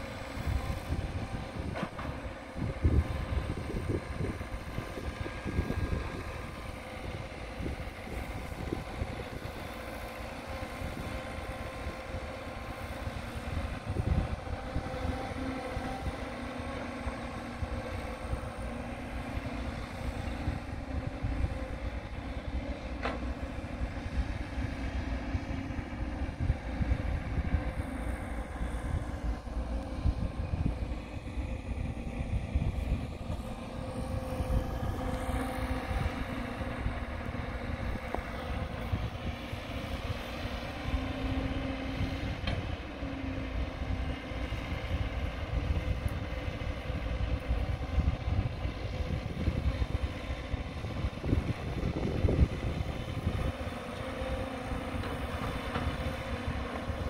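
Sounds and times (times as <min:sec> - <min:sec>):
excavator diesel engine droning: 0:00.0 - 0:57.0
wind rumble on microphone: 0:00.0 - 0:57.0.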